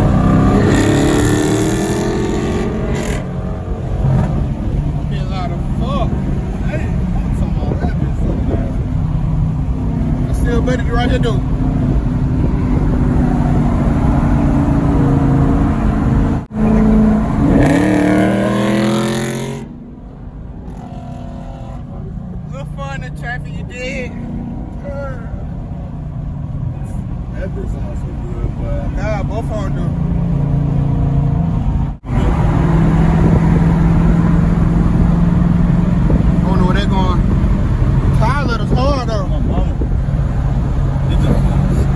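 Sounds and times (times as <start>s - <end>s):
car engine exhaust drone: 0.0s - 41.9s
car engine revving: 0.0s - 41.9s.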